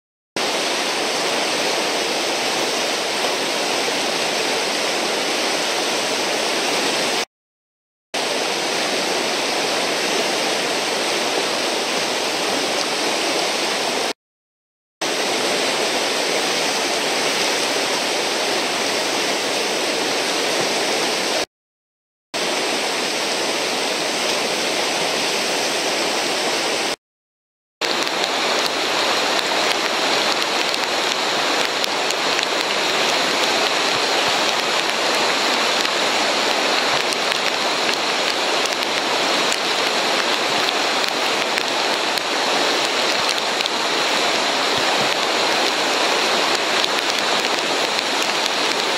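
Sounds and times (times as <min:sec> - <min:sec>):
whitewater rushing: 0:00.4 - 0:07.3, 0:08.2 - 0:14.2, 0:15.0 - 0:21.5, 0:22.4 - 0:27.0, 0:27.8 - 0:48.9.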